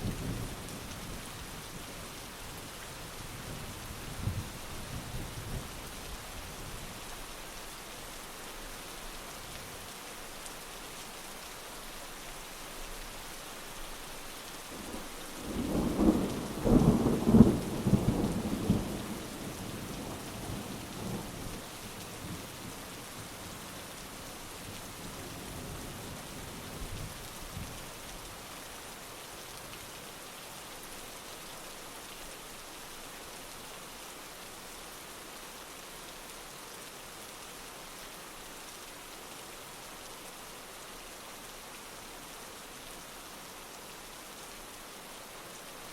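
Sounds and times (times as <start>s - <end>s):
heavy rain on surfaces: 0.0s - 45.9s.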